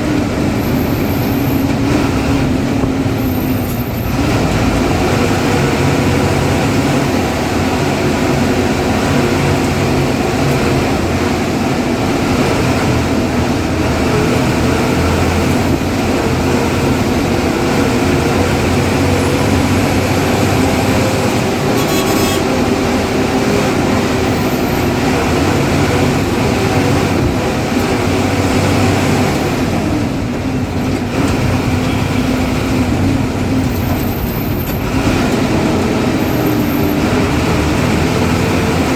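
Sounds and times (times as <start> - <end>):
diesel bus engine running: 0.0 - 38.9.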